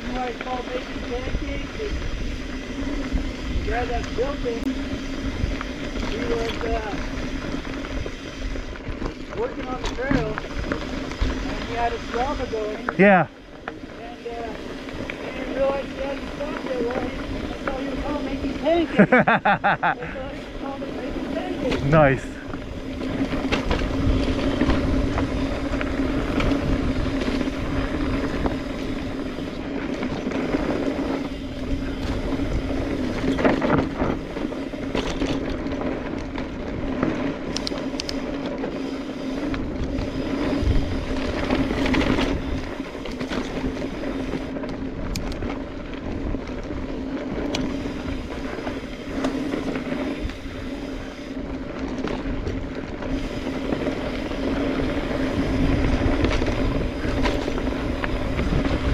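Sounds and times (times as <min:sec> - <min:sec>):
bike rattling over bumps: 0:00.0 - 0:58.9
bike tyres rolling on dirt: 0:00.0 - 0:58.9.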